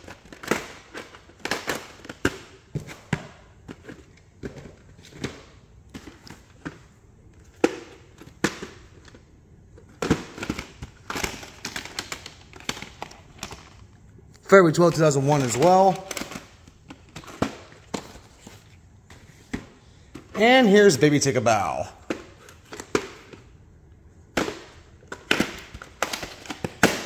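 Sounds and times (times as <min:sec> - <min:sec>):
plastic cases clicking and clacking: 0:00.0 - 0:13.9, 0:14.6 - 0:20.8, 0:22.0 - 0:23.5, 0:24.3 - 0:27.0.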